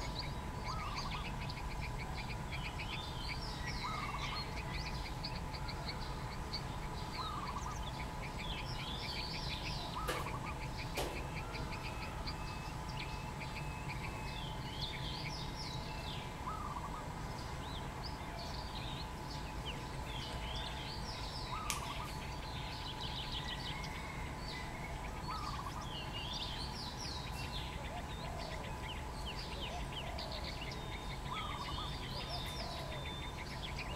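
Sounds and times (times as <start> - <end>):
birds chirping and twittering: 0.0 - 33.9.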